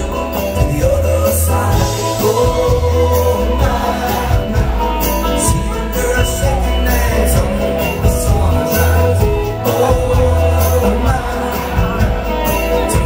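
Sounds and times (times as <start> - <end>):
backing vocals: 0.0 - 13.0
country-rock band playing: 0.0 - 13.0
drums: 0.0 - 13.0
person singing: 0.0 - 13.0.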